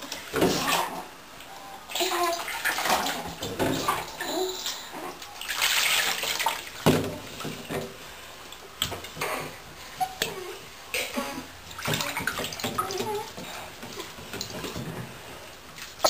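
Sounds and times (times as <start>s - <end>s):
bathwater splashing and dripping: 0.0s - 1.0s, 1.9s - 16.0s.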